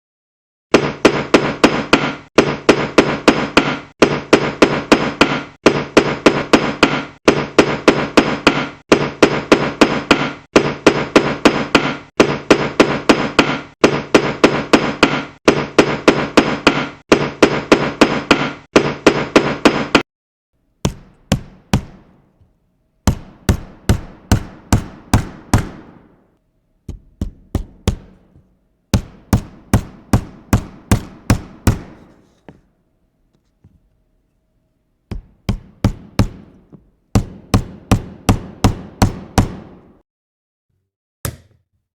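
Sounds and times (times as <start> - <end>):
hammer striking: 0.7 - 20.0, 20.8 - 32.7, 35.1 - 40.0.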